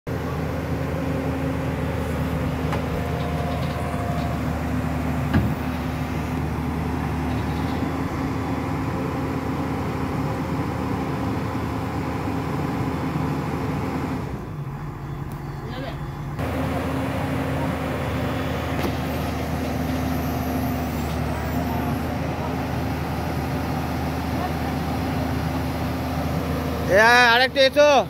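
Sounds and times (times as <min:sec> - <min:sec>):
excavator diesel engine running: 0:00.1 - 0:28.0.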